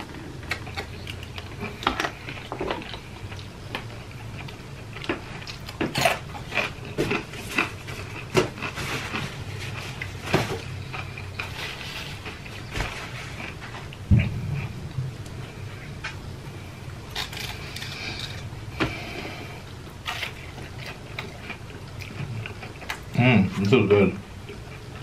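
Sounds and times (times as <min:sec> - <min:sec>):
low steady hum: 0:00.0 - 0:25.0
person chewing: 0:00.1 - 0:16.2, 0:17.1 - 0:23.2.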